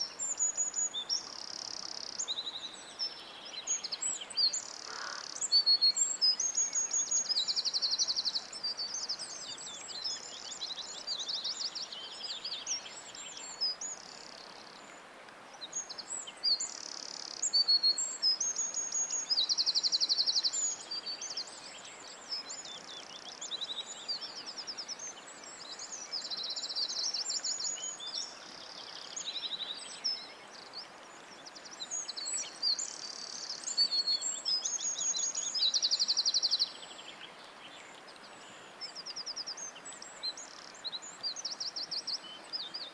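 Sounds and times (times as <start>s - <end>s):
faint steady hiss: 0.0s - 42.9s
songbird singing: 0.0s - 42.9s.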